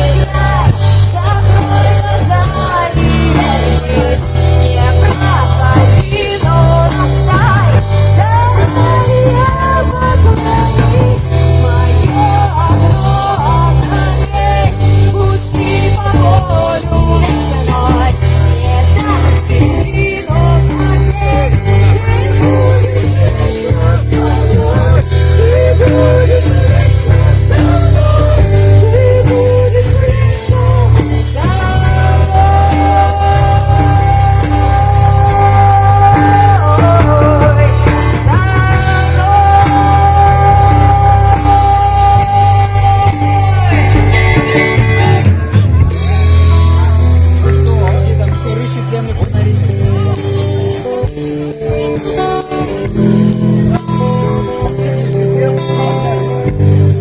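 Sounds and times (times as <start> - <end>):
band playing rock song: 0.0 - 57.0
heavy steady bass: 0.0 - 57.0
wavering melodic lead line: 0.0 - 57.0.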